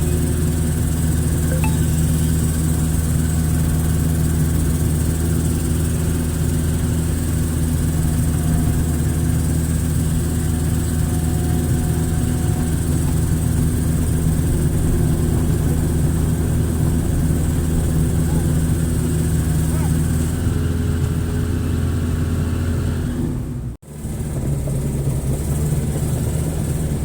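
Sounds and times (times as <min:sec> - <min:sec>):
diesel engine running steadily: 0:00.0 - 0:27.0.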